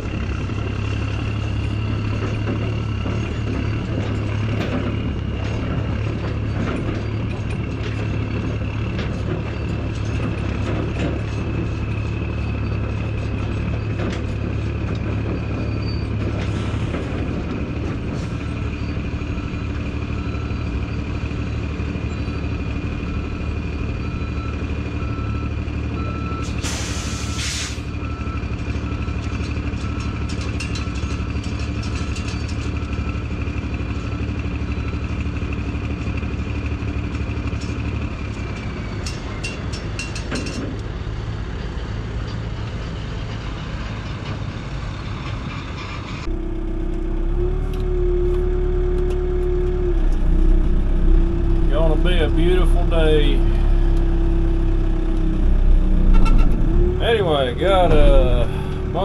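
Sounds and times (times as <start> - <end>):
diesel truck engine humming: 0.0 - 59.0.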